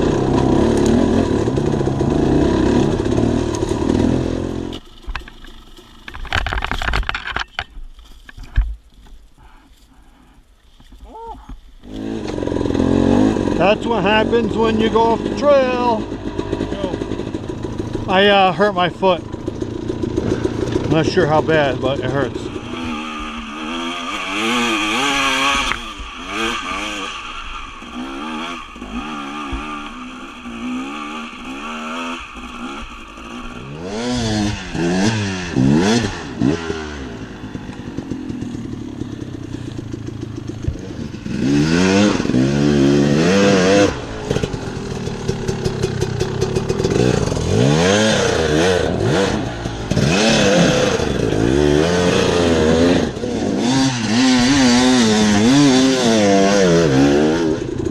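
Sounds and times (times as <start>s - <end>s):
dirt bike engine revving: 0.0s - 4.8s, 11.8s - 57.9s.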